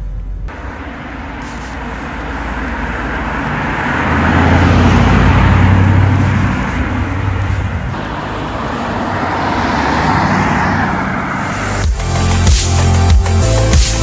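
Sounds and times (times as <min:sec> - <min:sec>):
car engine running: 0:00.0 - 0:14.0
road noise: 0:00.0 - 0:14.0.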